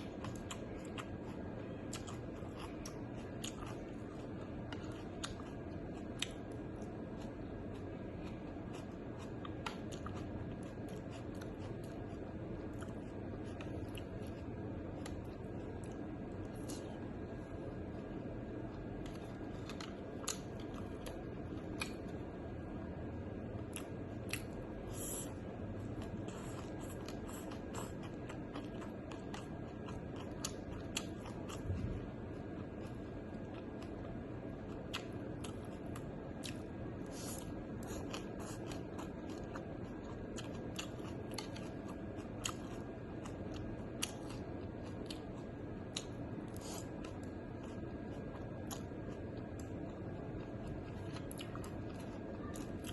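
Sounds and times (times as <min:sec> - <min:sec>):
person chewing crunchy food: 0:00.0 - 0:22.4, 0:23.6 - 0:52.9.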